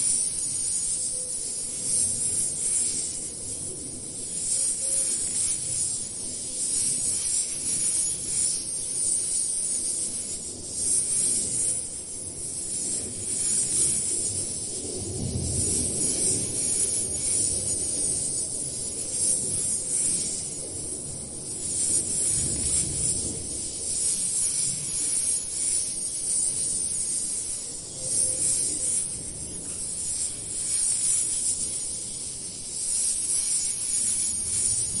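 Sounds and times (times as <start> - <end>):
high-pitched hiss: 0.0 - 35.0.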